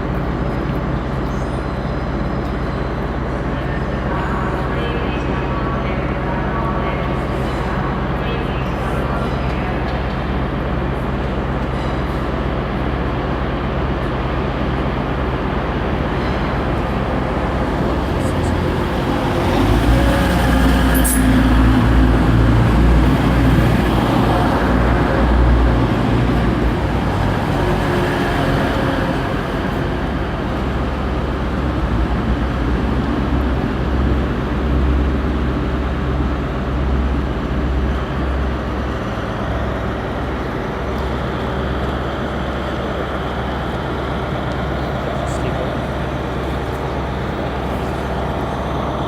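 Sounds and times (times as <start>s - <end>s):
diesel train engine running: 0.0s - 49.0s.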